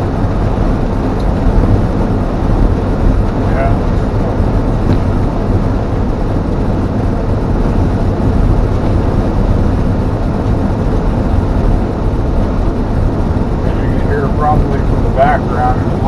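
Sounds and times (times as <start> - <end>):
truck driving heard from cab: 0.0 - 16.0.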